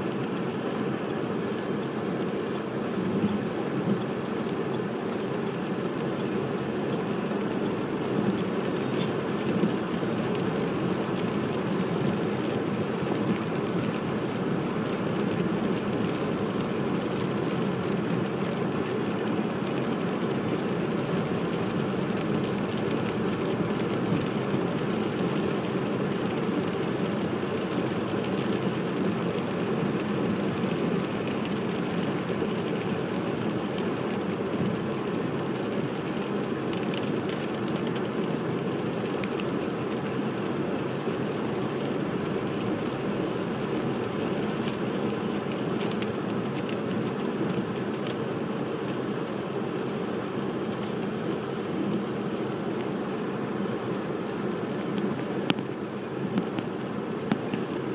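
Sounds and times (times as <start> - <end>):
car tyres on wet road: 0.0 - 57.9.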